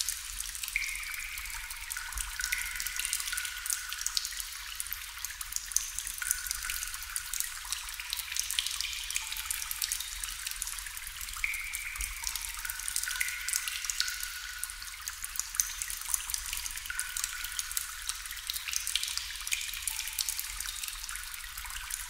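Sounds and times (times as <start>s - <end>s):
water dripping into water: 0.0s - 22.0s.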